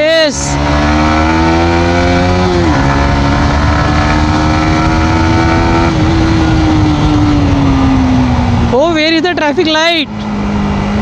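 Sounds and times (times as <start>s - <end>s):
motorcycle engine under throttle: 0.0s - 11.0s
wind rumble on microphone: 2.1s - 11.0s.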